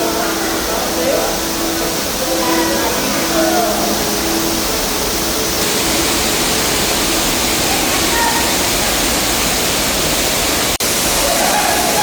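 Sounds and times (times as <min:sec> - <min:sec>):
faint voices: 0:00.0 - 0:09.7
waterfall rushing: 0:00.0 - 0:12.0.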